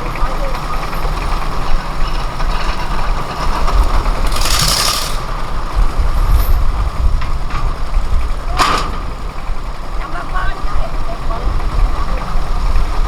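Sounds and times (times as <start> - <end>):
engine running with whine: 0.0 - 13.0.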